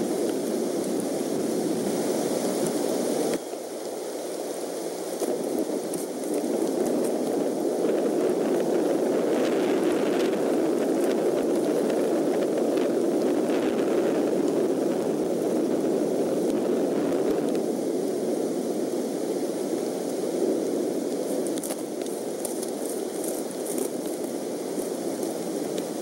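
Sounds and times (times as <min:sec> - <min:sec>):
wind and rain rushing: 0:00.0 - 0:26.0.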